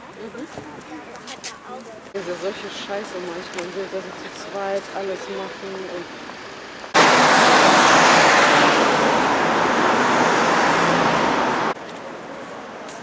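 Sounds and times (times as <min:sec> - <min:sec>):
road traffic hiss: 0:01.3 - 0:13.0.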